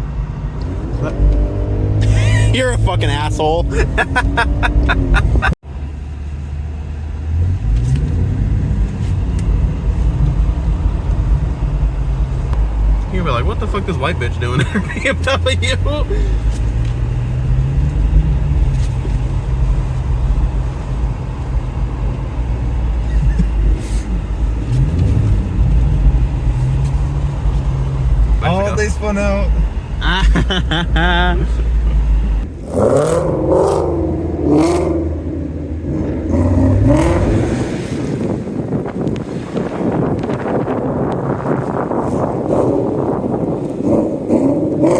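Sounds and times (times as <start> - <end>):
deep low rumble: 0.0 - 15.2, 15.8 - 28.4, 29.4 - 44.8
car engine: 0.0 - 44.9
road noise: 0.0 - 44.9.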